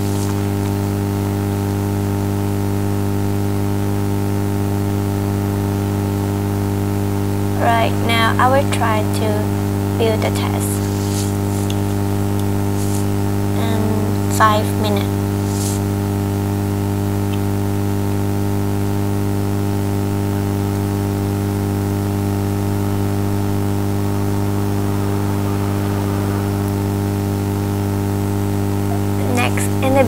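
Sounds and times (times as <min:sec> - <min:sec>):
constant hiss: 0:00.0 - 0:30.0
electrical mains hum: 0:00.0 - 0:30.0.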